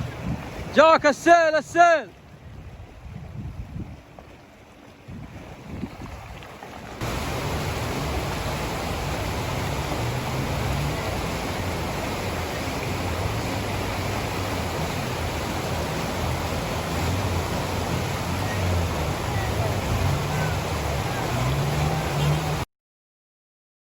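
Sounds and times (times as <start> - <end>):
flood water rushing: 0.0 - 22.7
low uneven rumble: 2.3 - 22.6.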